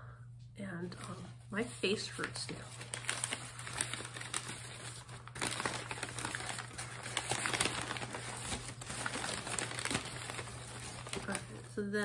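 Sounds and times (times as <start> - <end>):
newspaper crinkling and rustling: 0.9 - 11.7.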